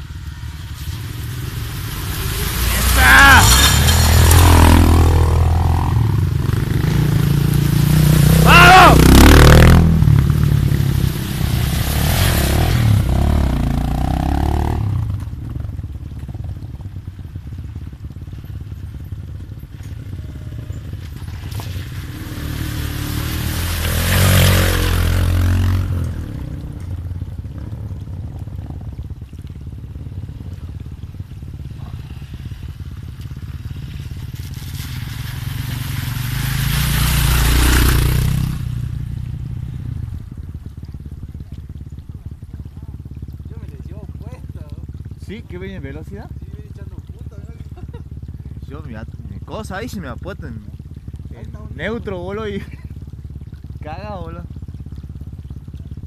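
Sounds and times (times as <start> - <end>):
dirt bike engines passing: 0.0 - 56.0
water splashing under wheels: 0.0 - 56.0.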